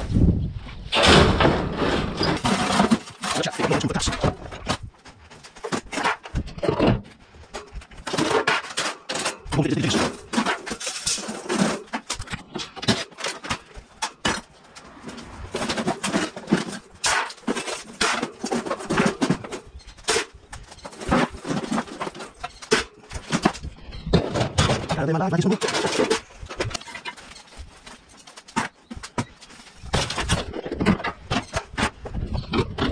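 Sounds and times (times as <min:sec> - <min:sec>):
sheet metal clanking and rattling: 0:00.9 - 0:04.9, 0:05.5 - 0:32.9.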